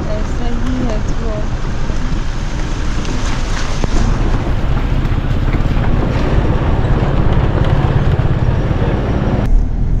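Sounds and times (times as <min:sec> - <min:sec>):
vehicle driving on rough road: 0:00.0 - 0:10.0
wind noise on microphone: 0:00.0 - 0:10.0.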